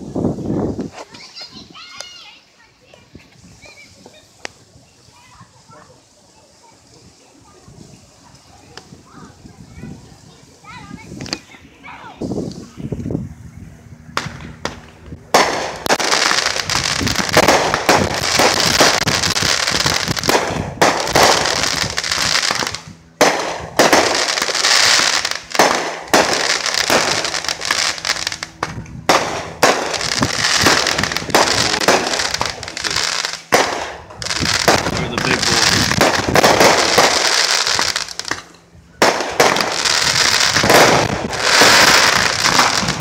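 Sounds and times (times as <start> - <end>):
fireworks bangs and crackling: 0.0 - 13.2, 14.0 - 43.0.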